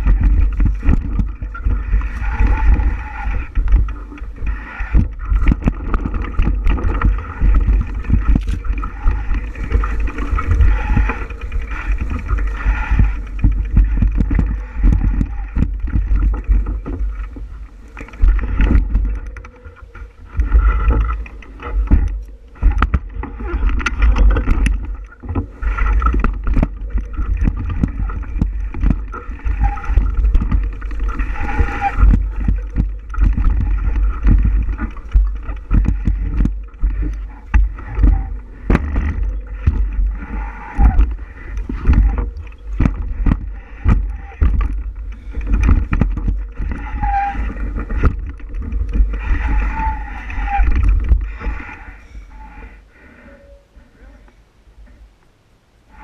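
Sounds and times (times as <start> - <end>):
bike rattling over bumps: 0.0 - 52.8.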